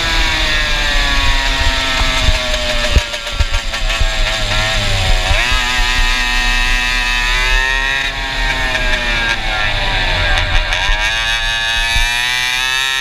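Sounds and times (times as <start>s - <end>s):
go-kart engine running hard: 0.0s - 13.0s.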